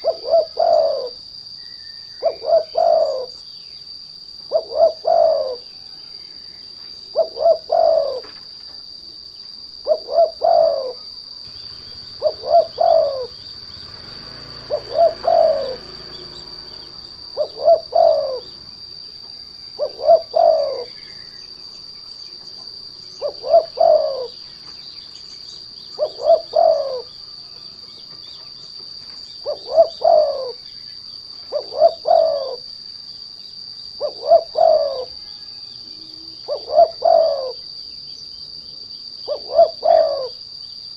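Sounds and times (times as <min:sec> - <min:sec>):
dove cooing: 0:00.0 - 0:03.4, 0:04.4 - 0:06.5, 0:07.1 - 0:08.6, 0:09.8 - 0:21.7, 0:22.3 - 0:33.0, 0:33.6 - 0:38.0, 0:39.1 - 0:40.6
high insect trill: 0:00.0 - 0:40.9.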